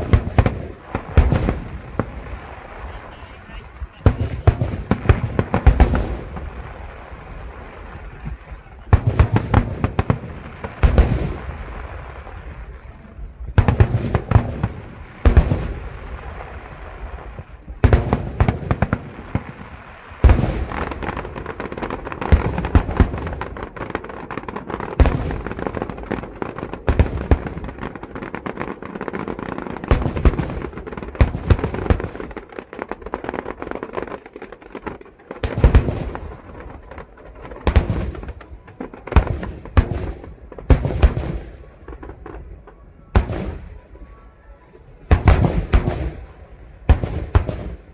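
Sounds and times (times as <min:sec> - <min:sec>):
firework shells booming: 0:00.0 - 0:47.9
fireworks crackling: 0:00.0 - 0:47.9.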